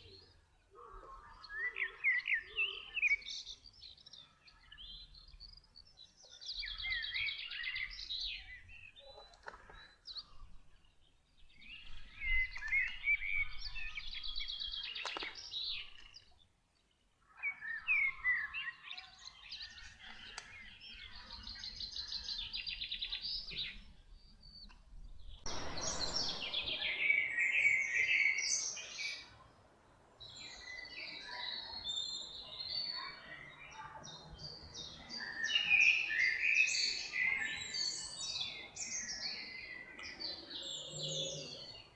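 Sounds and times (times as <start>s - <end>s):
songbirds chirping and trilling: 0.0s - 41.9s.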